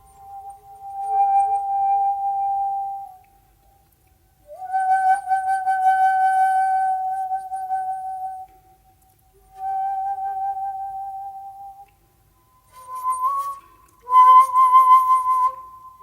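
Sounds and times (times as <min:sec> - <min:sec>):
bamboo flute long notes: 0:00.0 - 0:03.4, 0:04.4 - 0:16.0.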